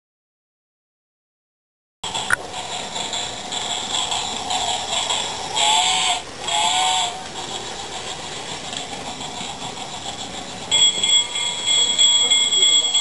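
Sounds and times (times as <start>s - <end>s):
toy train rattling: 2.1s - 13.0s.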